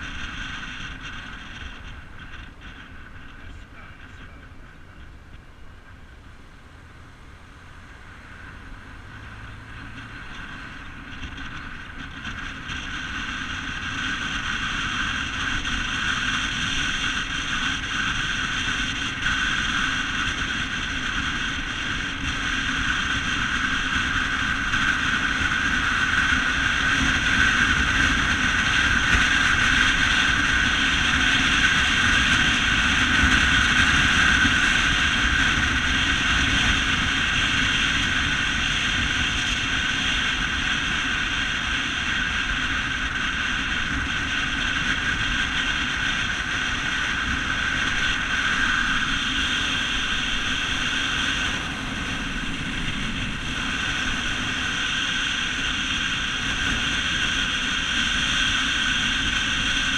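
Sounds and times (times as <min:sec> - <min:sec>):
wind and road noise from vehicle: 0:00.0 - 0:59.9.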